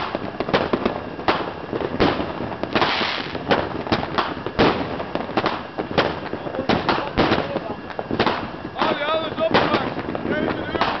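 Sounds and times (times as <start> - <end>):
fireworks bangs: 0.0 - 11.0
fireworks hissing crackle: 0.0 - 11.0.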